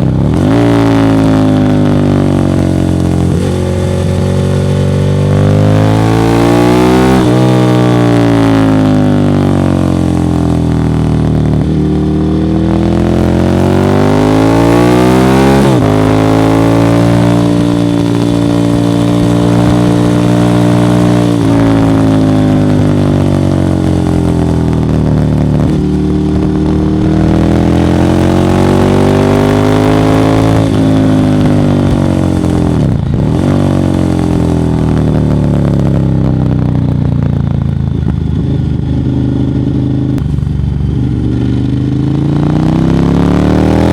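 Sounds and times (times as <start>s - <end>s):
motorcycle engine running loud: 0.0s - 43.9s.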